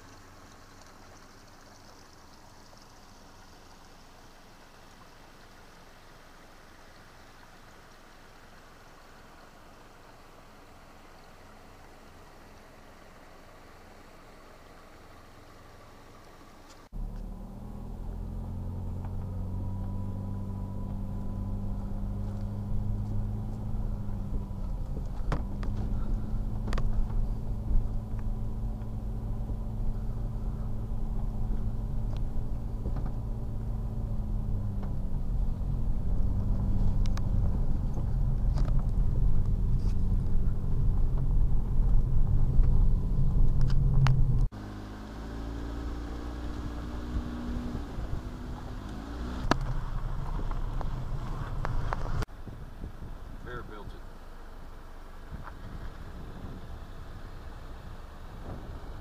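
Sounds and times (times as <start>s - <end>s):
car engine hum: 0.0s - 59.0s
road rumble: 0.0s - 59.0s.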